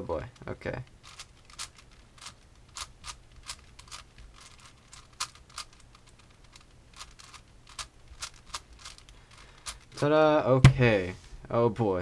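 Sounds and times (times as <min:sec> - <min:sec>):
puzzle cube clicking: 0:00.4 - 0:10.0.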